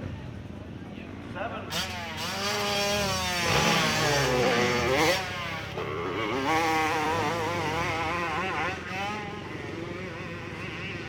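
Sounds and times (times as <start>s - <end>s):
motorcycle engine revving hard: 1.7s - 11.0s.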